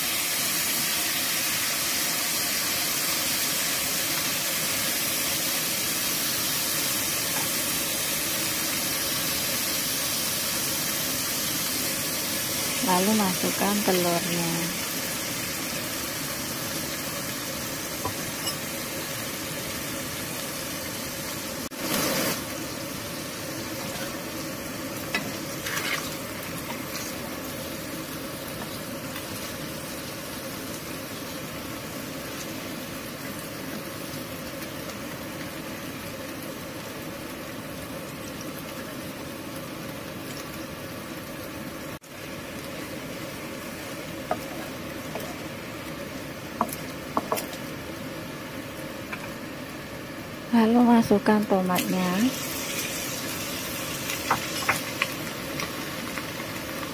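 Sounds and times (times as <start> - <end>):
food sizzling in a frying pan: 0.0 - 56.9.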